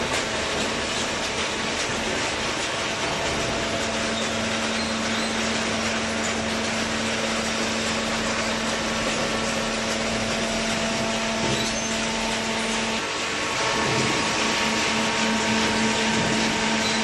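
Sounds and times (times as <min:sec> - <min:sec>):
baling press machine hum: 0:00.0 - 0:17.0.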